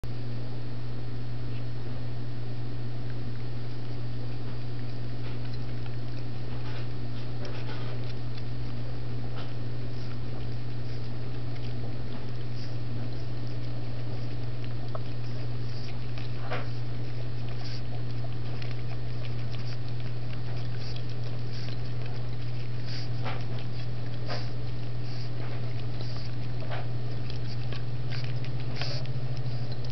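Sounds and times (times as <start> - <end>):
steady low hum: 0.0 - 29.9
dog licking and lapping: 3.1 - 29.9.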